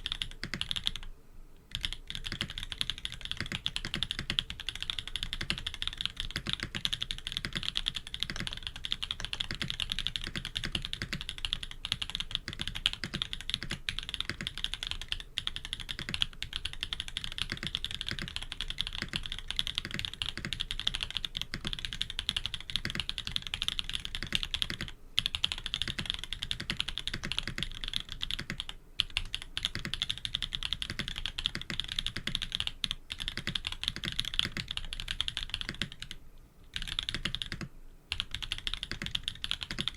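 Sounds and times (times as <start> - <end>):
mechanical keyboard typing: 0.0 - 1.1, 1.7 - 39.9.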